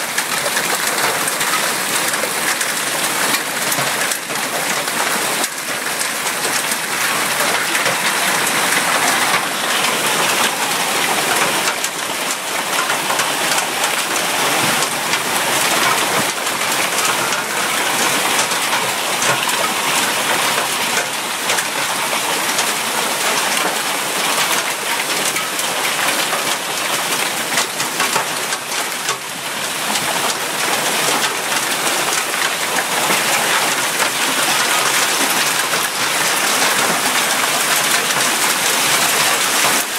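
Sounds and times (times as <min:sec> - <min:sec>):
hail and heavy rain falling: 0:00.0 - 0:39.9.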